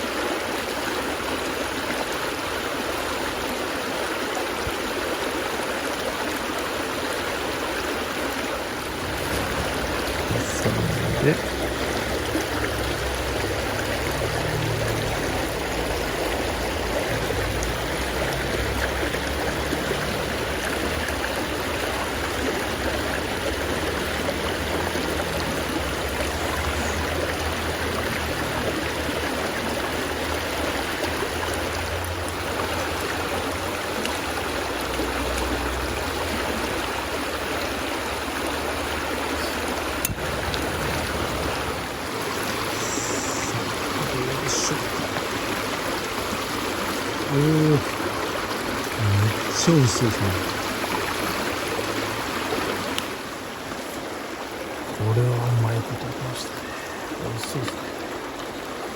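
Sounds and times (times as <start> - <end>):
river flowing: 0.0 - 58.9.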